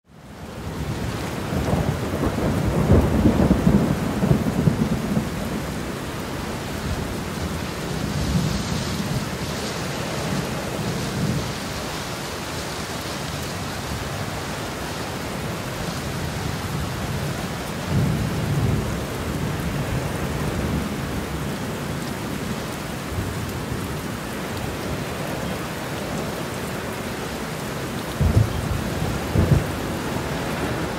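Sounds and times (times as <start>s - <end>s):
strong wind through pine trees: 0.1s - 30.9s.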